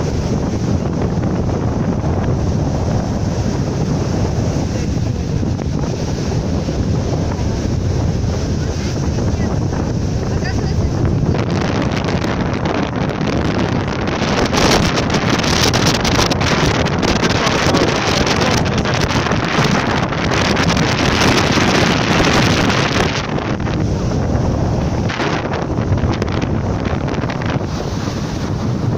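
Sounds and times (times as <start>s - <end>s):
surf breaking on shore: 0.0s - 28.9s
wind buffeting microphone: 0.0s - 28.9s.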